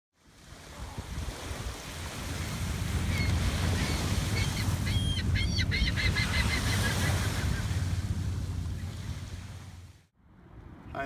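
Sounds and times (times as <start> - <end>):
ocean surf: 0.2 - 10.8
wind on microphone: 0.4 - 10.0.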